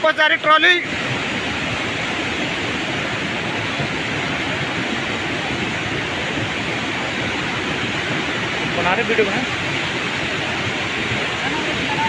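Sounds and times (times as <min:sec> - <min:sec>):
turbulent river water rushing: 0:00.0 - 0:12.0.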